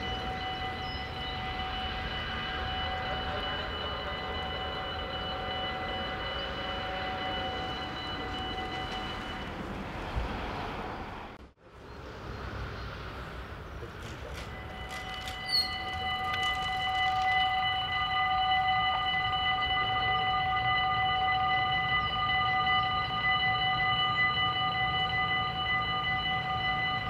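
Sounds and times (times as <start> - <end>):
level crossing warning bell: 0.0 - 10.6, 13.8 - 27.0.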